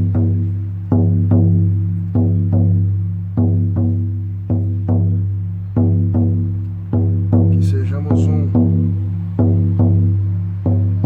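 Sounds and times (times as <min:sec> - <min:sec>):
frame drum booming: 0:00.0 - 0:11.0.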